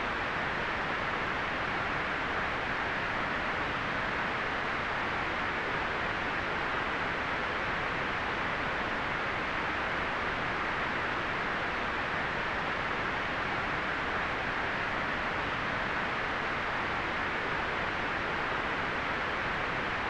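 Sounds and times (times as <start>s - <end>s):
steady white noise hiss: 0.0s - 20.0s.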